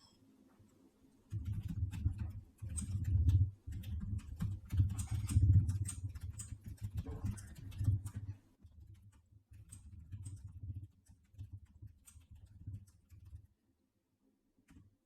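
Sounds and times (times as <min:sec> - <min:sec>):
computer mouse and keyboard clicks: 0:01.3 - 0:13.4.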